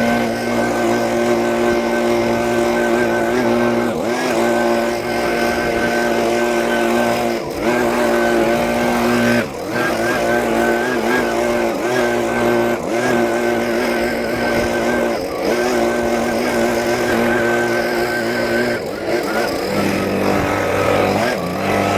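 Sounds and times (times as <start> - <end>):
engine running steadily: 0.0 - 21.9.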